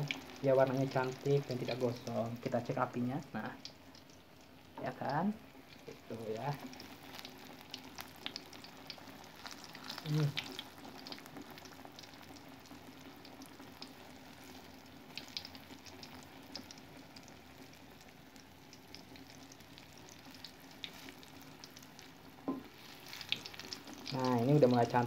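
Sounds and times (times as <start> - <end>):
tofu sizzling in hot oil: 0.0 - 25.0.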